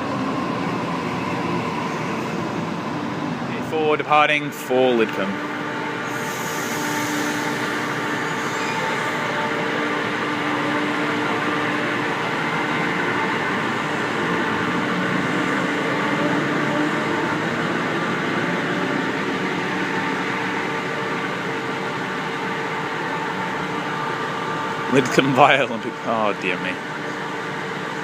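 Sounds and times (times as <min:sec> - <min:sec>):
train mechanical hum: 0:00.0 - 0:28.0.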